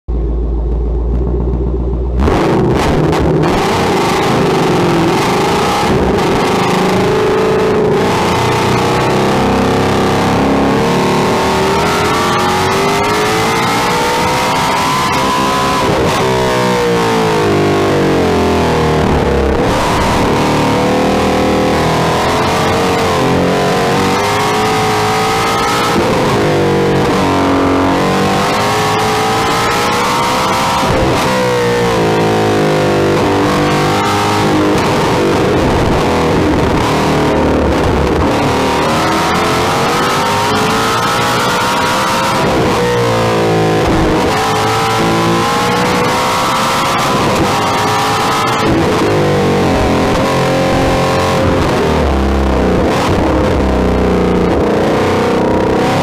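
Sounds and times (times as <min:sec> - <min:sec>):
sports car engine accelerating: 0:00.1 - 0:56.0
tyre and road noise: 0:00.1 - 0:56.0.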